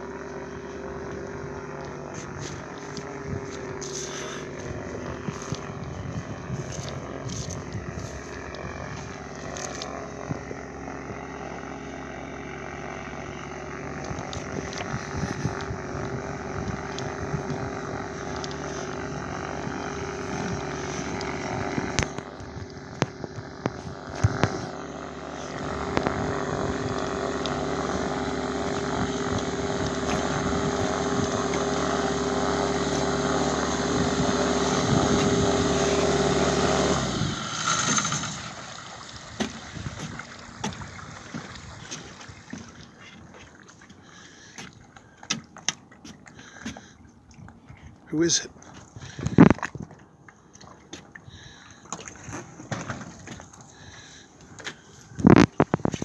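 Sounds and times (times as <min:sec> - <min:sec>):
plane engine and propeller: 0:00.0 - 0:56.0.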